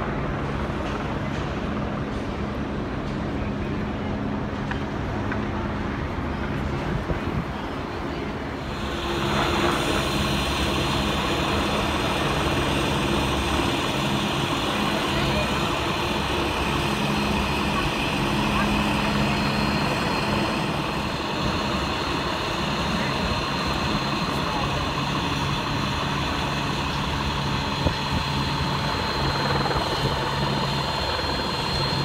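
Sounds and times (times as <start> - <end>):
traffic engine hum: 0.0 - 32.0.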